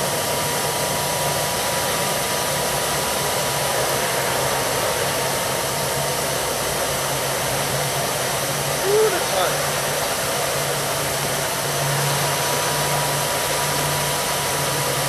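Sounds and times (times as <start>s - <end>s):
hair dryer blowing air: 0.0s - 15.0s.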